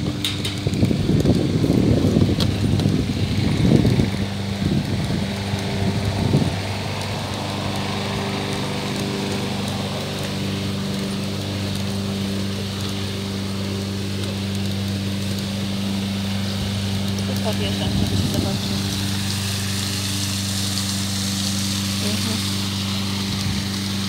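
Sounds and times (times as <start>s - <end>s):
small motor running: 0.0s - 24.0s.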